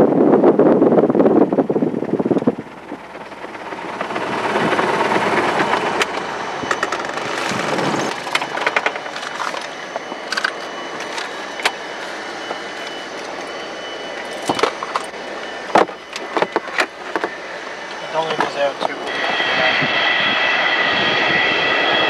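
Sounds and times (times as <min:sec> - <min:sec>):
wind buffeting microphone: 0:00.0 - 0:13.1, 0:15.5 - 0:22.0.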